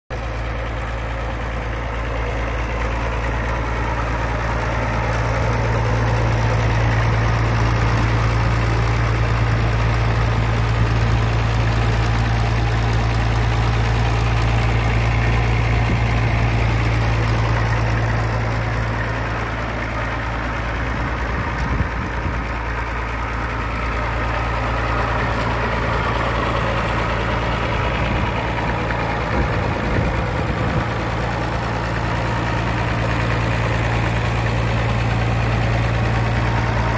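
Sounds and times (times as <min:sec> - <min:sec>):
tractor diesel engine idling: 0:00.1 - 0:36.9.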